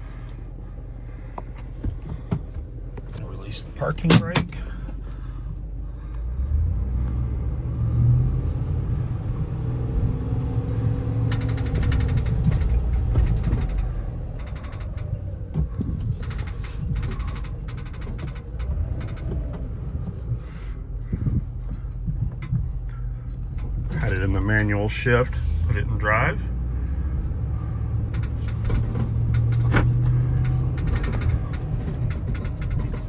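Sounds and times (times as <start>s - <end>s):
truck engine rumbling: 0.0s - 33.0s
cab clicks and rattles: 0.2s - 7.2s, 9.3s - 33.0s.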